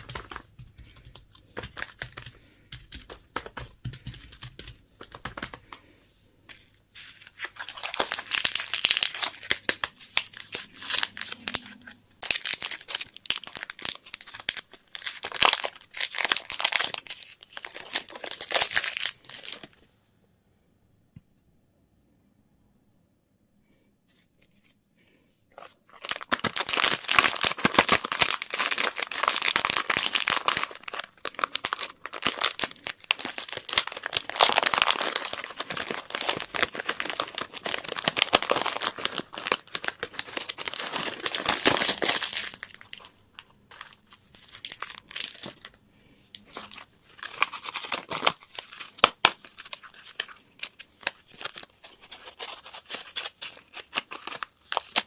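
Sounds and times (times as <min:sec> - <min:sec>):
candy wrapper crinkling: 0:00.0 - 0:05.8, 0:06.5 - 0:19.8, 0:25.5 - 0:45.8, 0:46.4 - 0:55.0.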